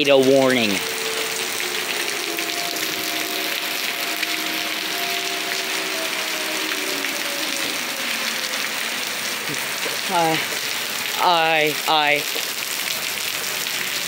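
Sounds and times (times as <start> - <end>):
distant warning sirens wailing: 0.0 - 14.0
heavy rain hissing: 0.0 - 14.0.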